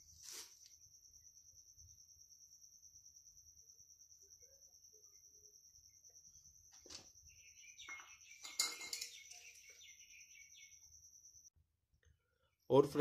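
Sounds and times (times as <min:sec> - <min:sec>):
high-pitched insect trill: 0:00.0 - 0:11.5.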